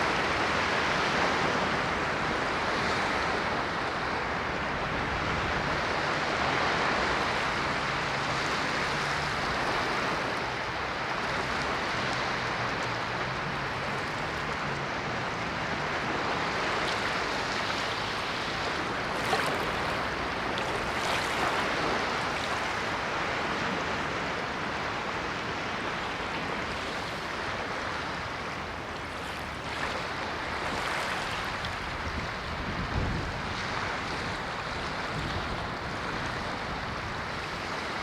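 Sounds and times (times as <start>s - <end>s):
ocean waves washing in: 0.0s - 38.0s.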